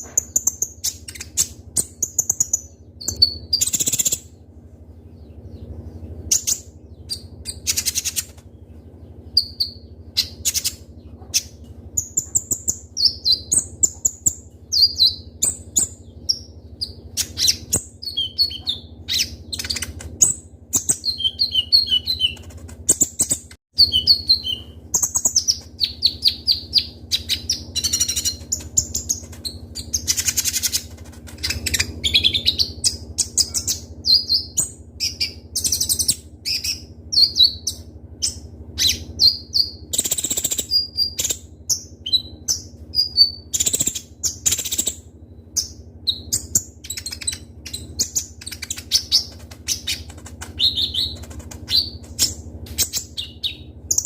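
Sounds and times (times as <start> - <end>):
sunbird singing: 0.0 - 54.0.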